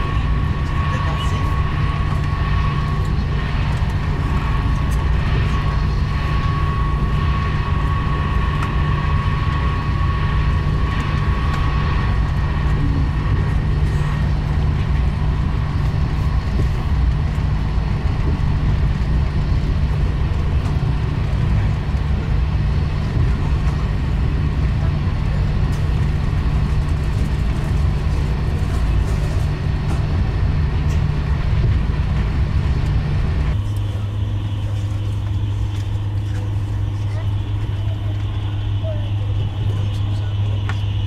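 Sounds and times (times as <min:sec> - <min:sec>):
train low rumble inside car: 0:00.0 - 0:41.0.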